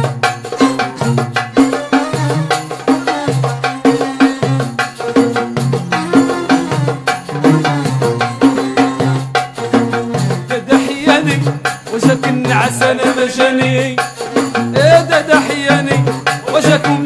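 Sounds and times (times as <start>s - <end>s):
hand percussion and rattle beat: 0.0s - 17.0s.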